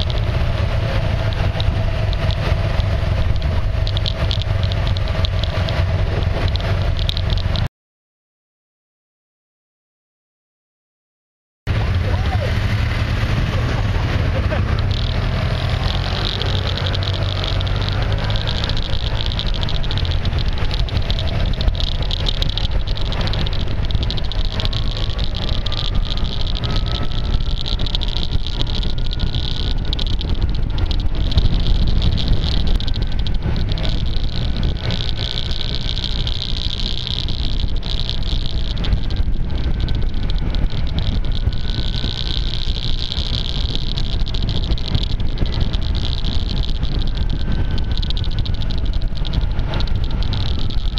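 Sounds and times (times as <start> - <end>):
clicking from taped microphone: 0.0 - 7.7, 14.2 - 50.9
scooter engine: 0.0 - 7.7, 11.7 - 50.9
wind noise: 0.0 - 7.7, 11.7 - 50.9.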